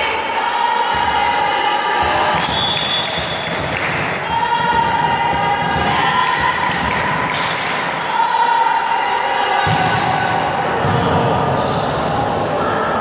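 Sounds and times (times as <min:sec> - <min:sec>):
group of voices chanting a cheer: 0:00.0 - 0:13.0.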